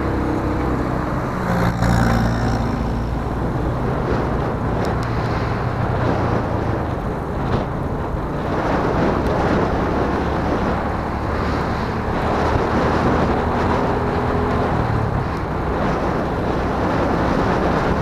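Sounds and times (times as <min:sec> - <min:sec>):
vehicle engine running: 0:00.0 - 0:18.0
wind noise on microphone: 0:00.0 - 0:18.0.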